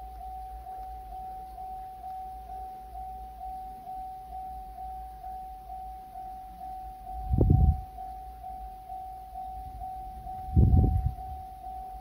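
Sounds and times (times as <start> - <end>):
electronic crossing bell ringing: 0.0 - 12.0.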